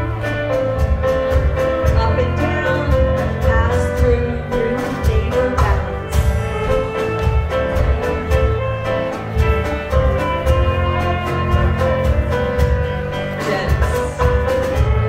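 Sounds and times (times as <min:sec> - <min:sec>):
live dance band playing: 0:00.0 - 0:15.0.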